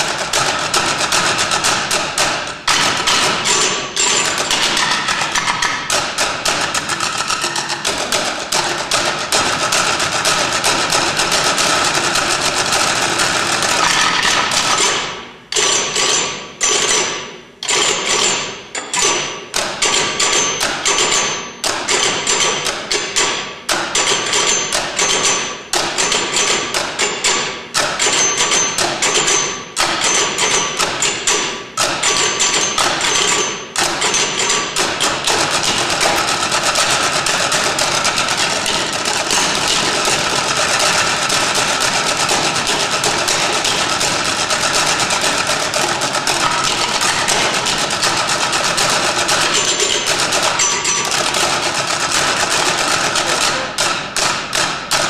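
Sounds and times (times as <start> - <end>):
sticks striking stools: 0.0 - 17.0, 25.8 - 55.0.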